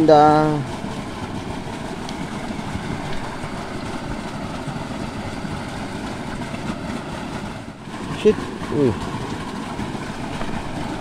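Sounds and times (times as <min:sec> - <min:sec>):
stream water pouring into pool: 0:00.0 - 0:11.0.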